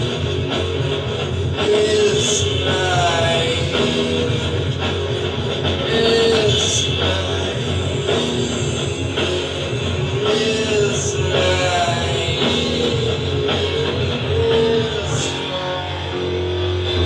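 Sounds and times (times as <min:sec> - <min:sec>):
rock song from vinyl record: 0:00.0 - 0:17.0.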